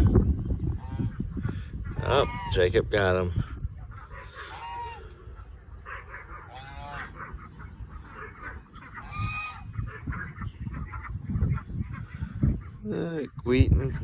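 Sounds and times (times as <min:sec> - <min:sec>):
farmyard fowl chattering: 0:00.0 - 0:14.0
geese honking: 0:00.0 - 0:14.0.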